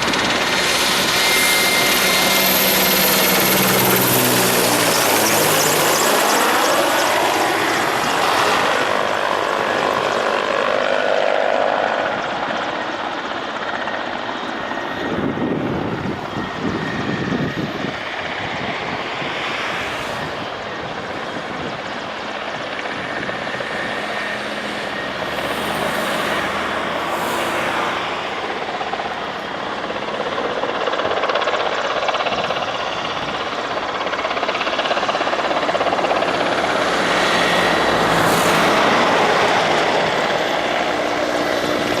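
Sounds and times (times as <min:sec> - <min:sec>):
helicopters flying past: 0:00.0 - 0:42.0.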